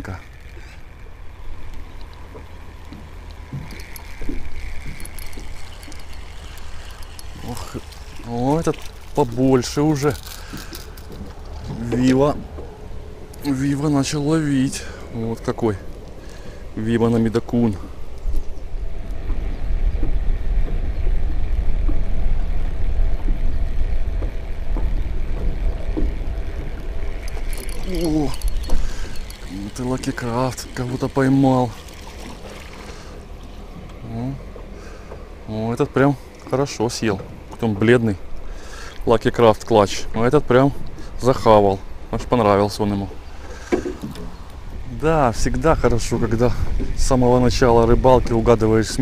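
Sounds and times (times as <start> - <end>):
low wind rumble on microphone: 0.0 - 49.0
small waves lapping against boat hull: 0.0 - 49.0.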